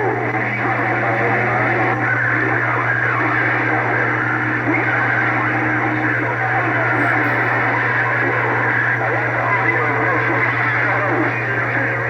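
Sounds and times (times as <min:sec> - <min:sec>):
radio static: 0:00.0 - 0:12.0.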